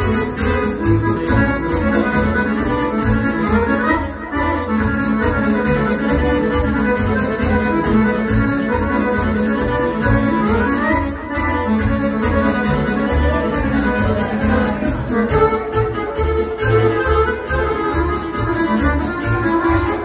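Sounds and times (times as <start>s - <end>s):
dance band playing folk music: 0.0s - 20.0s
electronic keyboard melody: 0.0s - 20.0s.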